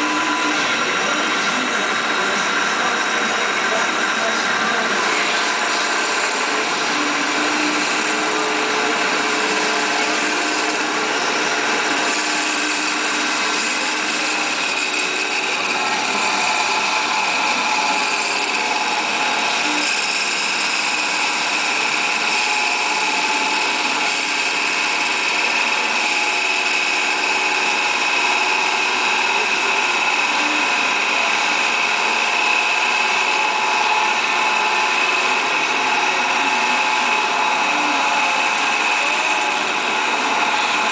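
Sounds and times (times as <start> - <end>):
high machine whine: 0.0 - 40.9
tool hissing cutting wood: 0.0 - 40.9.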